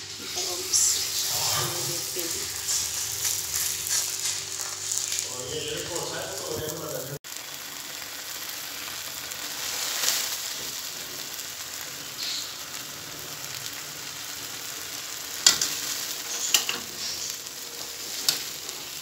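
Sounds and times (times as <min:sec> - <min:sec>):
greens sizzling in a pot: 0:00.0 - 0:19.0.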